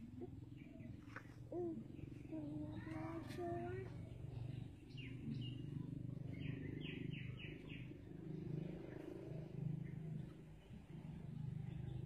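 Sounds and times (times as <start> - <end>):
steady low hum: 0.0 - 12.0
bird chirping: 0.2 - 12.0.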